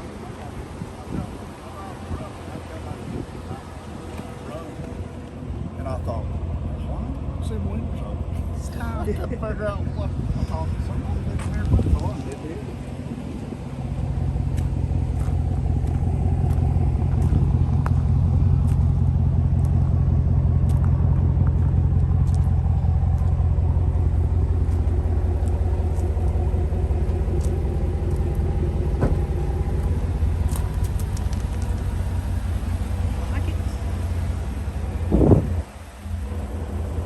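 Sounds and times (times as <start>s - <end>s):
pickup truck engine rumbling: 0.0s - 37.0s.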